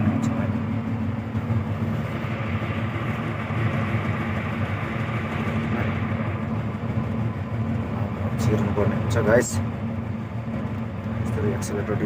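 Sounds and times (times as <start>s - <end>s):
diesel excavator engine idling: 0.0s - 12.0s.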